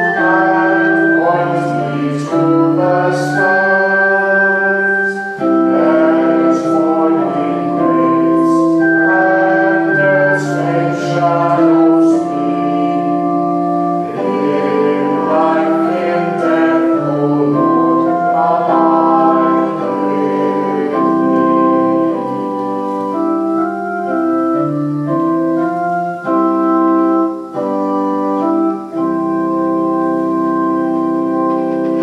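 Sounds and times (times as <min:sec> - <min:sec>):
hymn on electronic organ: 0:00.0 - 0:32.0.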